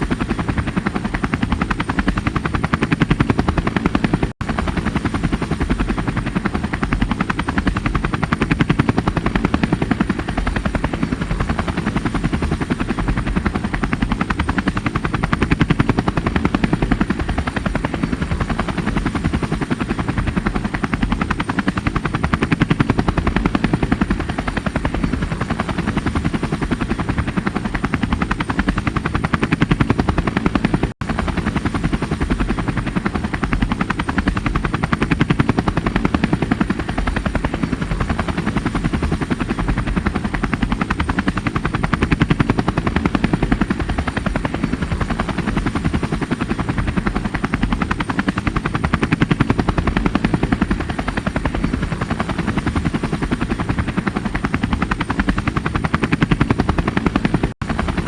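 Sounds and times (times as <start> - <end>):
helicopter rotor chop: 0.0 - 58.0.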